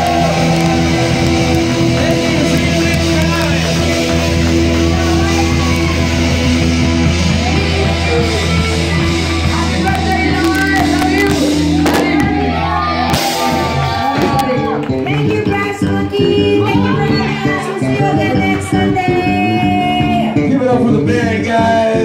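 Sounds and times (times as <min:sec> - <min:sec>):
singers and crowd shouting: 0:00.0 - 0:02.8, 0:04.8 - 0:15.0, 0:16.1 - 0:22.0
rock band playing: 0:00.0 - 0:22.0.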